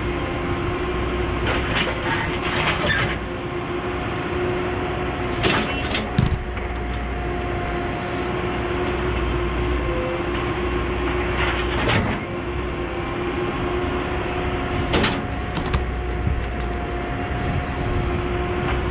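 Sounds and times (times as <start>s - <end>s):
excavator engine running: 0.0s - 18.9s.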